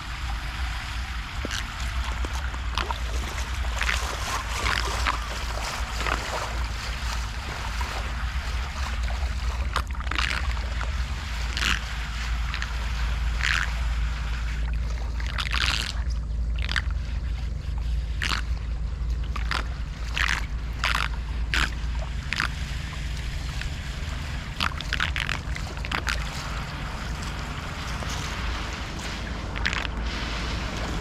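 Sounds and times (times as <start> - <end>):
floodwater sloshing and splashing: 0.0 - 31.0
wind on microphone: 0.0 - 31.0.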